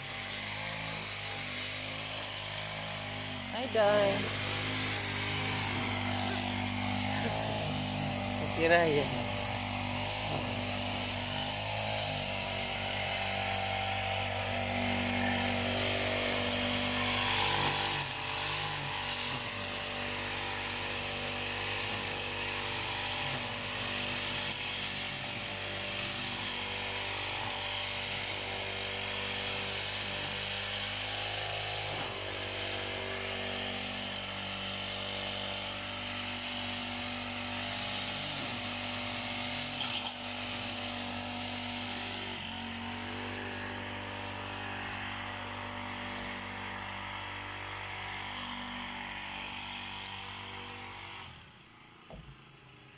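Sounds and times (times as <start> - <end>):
brush cutter cutting grass: 0.0 - 52.9.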